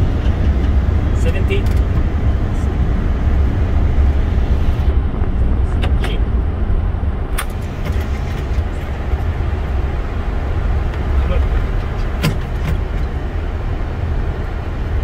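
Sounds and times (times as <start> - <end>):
airliner cockpit rumble: 0.0 - 15.0.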